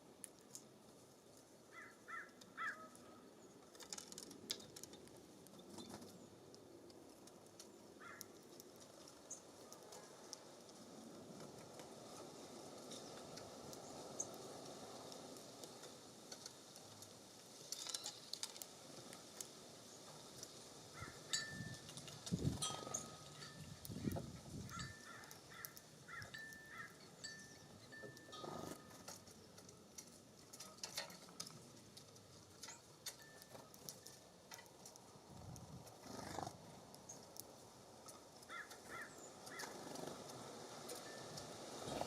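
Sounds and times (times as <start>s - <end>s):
birds pecking and tapping: 0.2s - 42.0s
breeze rustling: 3.3s - 42.0s.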